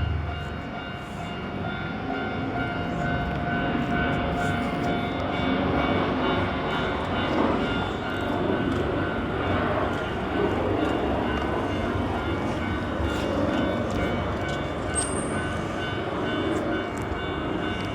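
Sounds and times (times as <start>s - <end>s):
train rumble: 0.0s - 17.9s.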